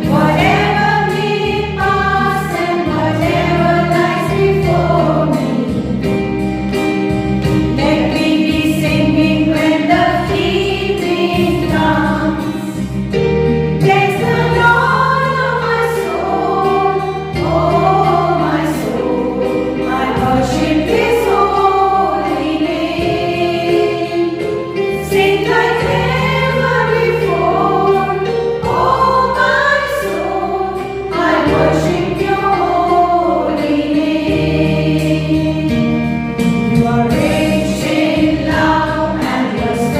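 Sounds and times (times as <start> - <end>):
choir singing: 0.0 - 6.3, 7.8 - 12.8, 13.8 - 39.9
held accompaniment notes: 0.0 - 39.9.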